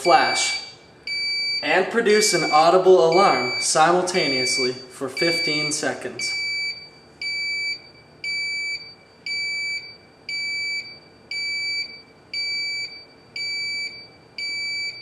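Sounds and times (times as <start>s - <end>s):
high-pitched alarm beeping: 0.0s - 15.0s.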